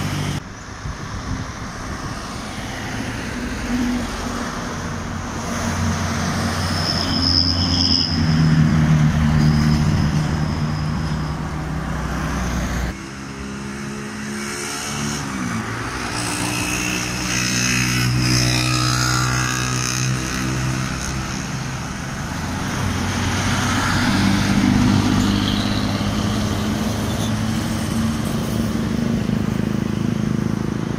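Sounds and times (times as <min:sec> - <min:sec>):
passing cars and motorcycles: 0:00.0 - 0:30.9.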